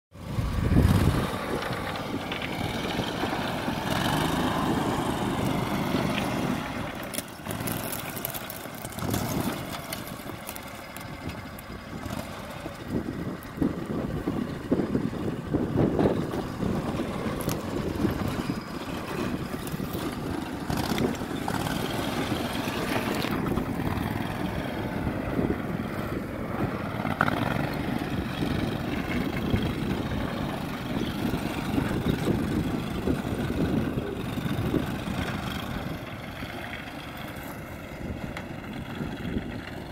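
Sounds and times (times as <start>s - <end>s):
vehicle engine running: 0.1s - 39.9s.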